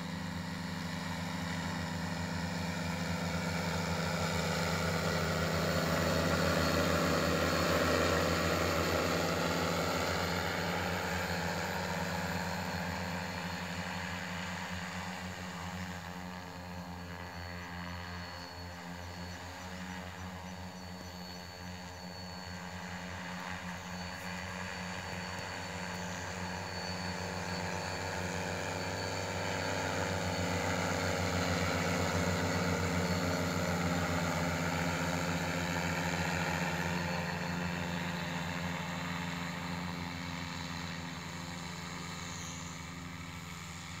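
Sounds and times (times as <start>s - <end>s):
drone rotors humming: 0.0s - 44.0s.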